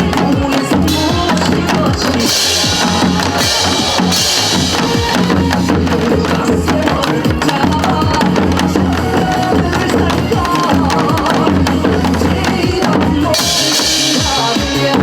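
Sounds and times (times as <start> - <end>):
hourglass drums played by group: 0.0 - 15.0
music: 0.0 - 15.0.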